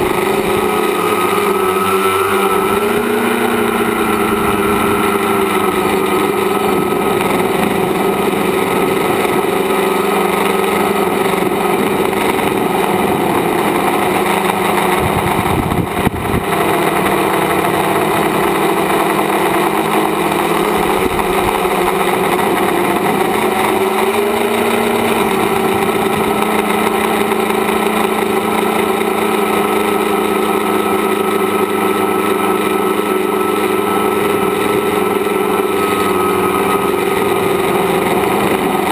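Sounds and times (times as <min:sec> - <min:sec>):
drone motors whining: 0:00.0 - 0:38.9
rushing air: 0:00.0 - 0:38.9.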